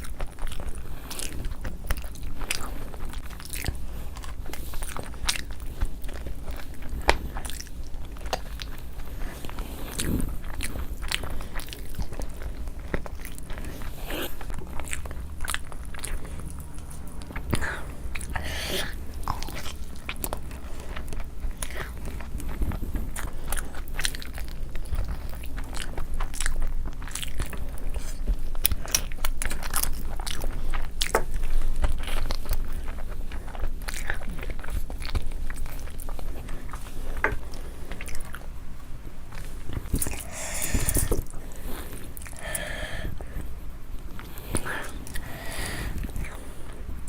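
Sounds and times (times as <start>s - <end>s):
mouth clicks and crunches: 0.0s - 47.0s
person chewing food: 0.0s - 47.0s.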